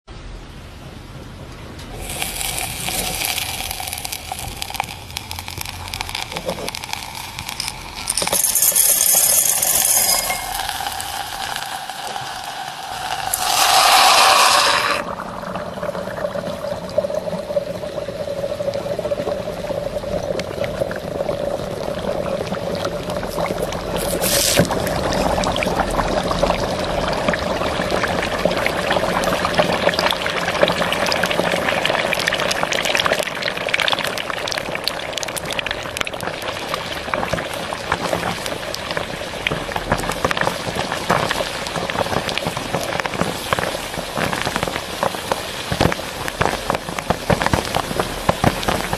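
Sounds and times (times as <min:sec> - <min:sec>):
popcorn sizzling and popping: 0:01.8 - 0:48.9.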